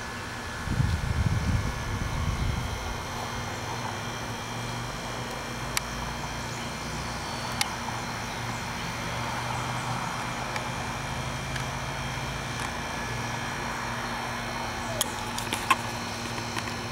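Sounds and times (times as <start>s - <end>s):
mechanical hum with hiss: 0.0s - 16.9s.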